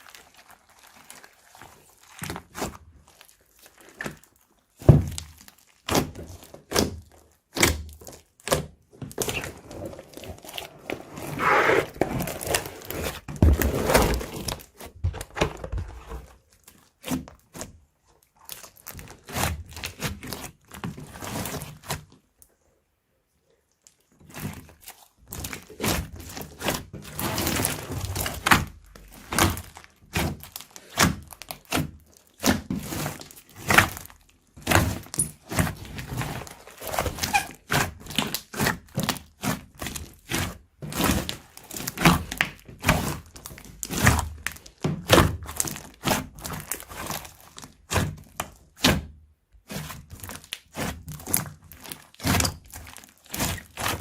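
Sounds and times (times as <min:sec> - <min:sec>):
slime crackling and crunching: 0:00.0 - 0:15.2, 0:16.3 - 0:22.1, 0:23.7 - 0:49.0, 0:49.6 - 0:54.0.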